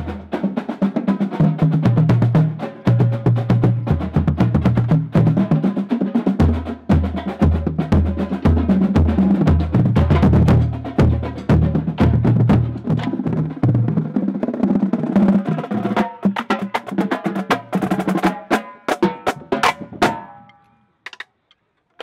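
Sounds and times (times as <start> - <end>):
marching drumline playing: 0.0 - 20.3.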